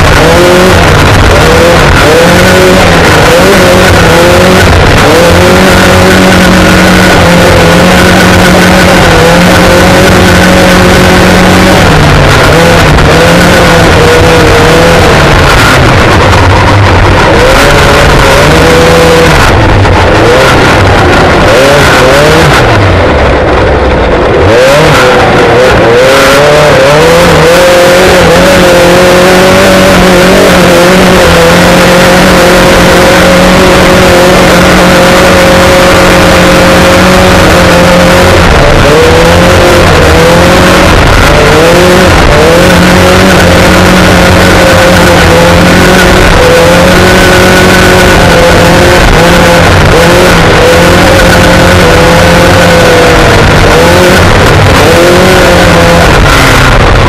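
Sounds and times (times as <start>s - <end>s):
race car engine revving: 0.0s - 57.0s
rumble of dirt and wind: 0.0s - 57.0s.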